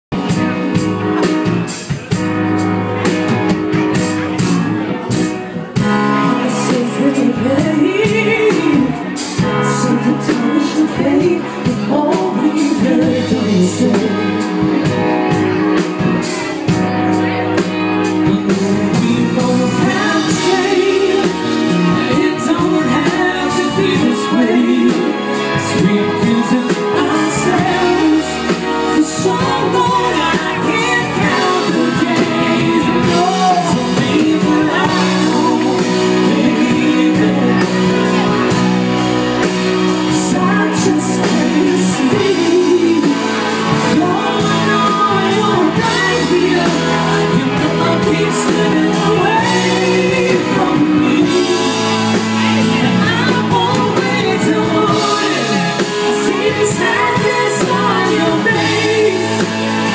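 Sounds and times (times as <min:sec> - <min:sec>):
drum kit: 0:00.0 - 0:59.9
keyboard: 0:00.0 - 0:59.9
electric guitar: 0:00.1 - 0:59.9
woman singing: 0:06.2 - 0:15.0, 0:18.2 - 0:38.6, 0:39.9 - 0:59.9.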